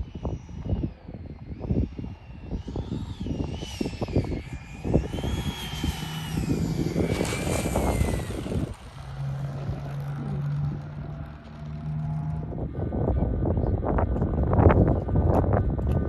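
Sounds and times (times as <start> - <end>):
model airplane engine whine: 0.0 - 16.0
wind noise on microphone: 0.0 - 16.0.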